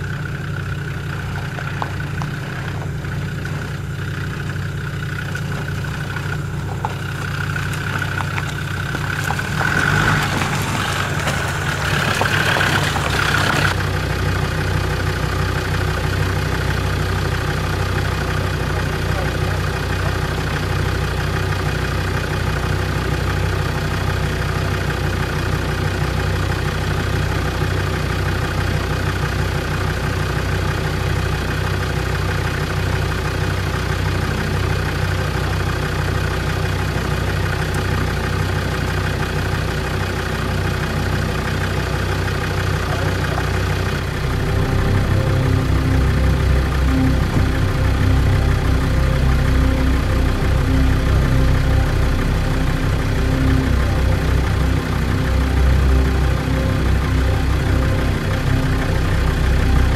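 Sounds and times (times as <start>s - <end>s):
engine idling low hum: 0.0s - 59.9s.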